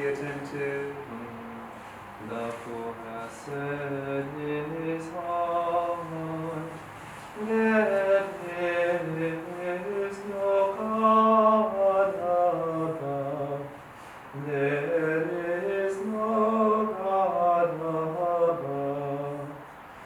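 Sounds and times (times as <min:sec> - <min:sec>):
voices chanting a hymn: 0:00.0 - 0:19.8.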